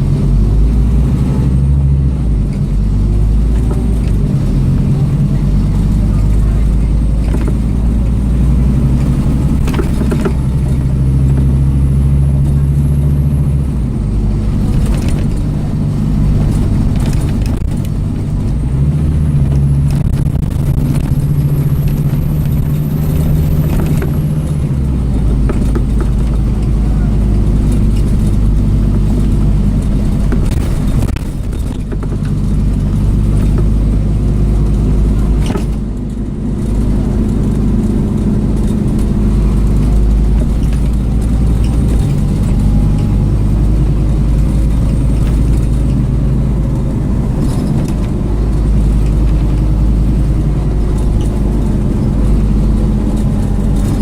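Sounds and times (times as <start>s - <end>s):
bus diesel engine pulling away: 0.0s - 54.0s
high engine whine: 0.0s - 54.0s
rattles and clicks: 0.0s - 54.0s.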